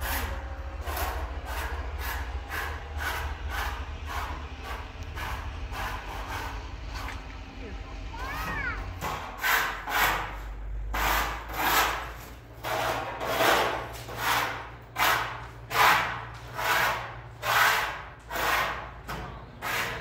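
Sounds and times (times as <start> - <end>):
rhythmic rasping scraping strokes: 0.0 - 7.2, 9.0 - 20.0.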